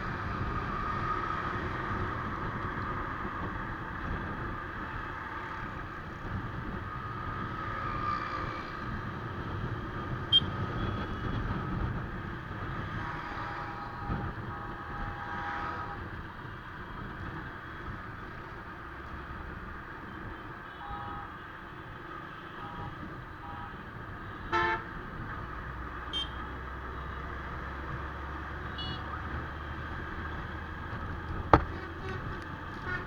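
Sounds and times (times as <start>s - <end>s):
motorcycle engine and wind rumble: 0.0s - 33.0s.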